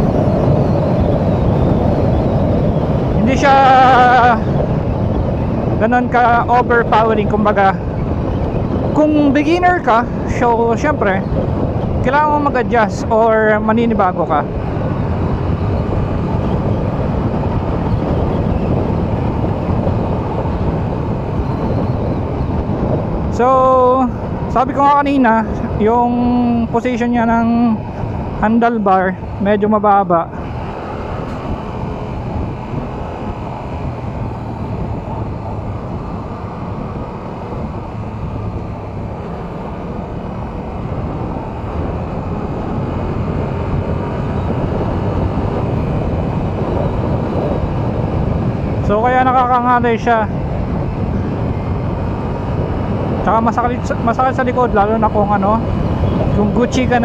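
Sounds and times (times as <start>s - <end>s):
motorcycle engine running: 0.0s - 57.0s
wind rushing at helmet: 0.0s - 57.0s.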